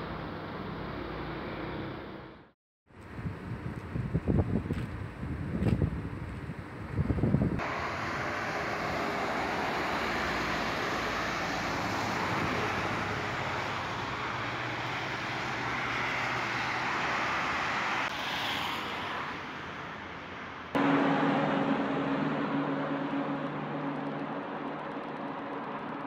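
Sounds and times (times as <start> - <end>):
rushing road traffic: 0.0 - 26.0.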